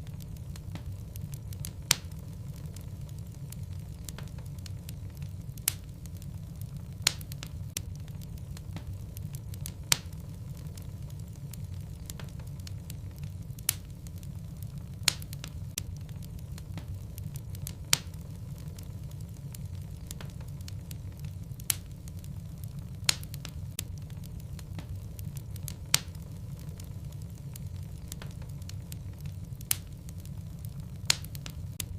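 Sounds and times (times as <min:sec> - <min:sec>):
low rumble of flames: 0:00.0 - 0:31.9
sharp cracks of burning logs: 0:00.0 - 0:31.9
wood fire crackling: 0:00.0 - 0:31.9.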